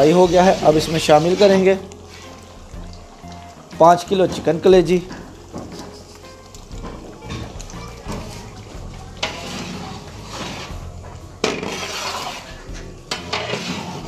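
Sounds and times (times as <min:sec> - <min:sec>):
splashing and scraping: 0:00.0 - 0:14.0.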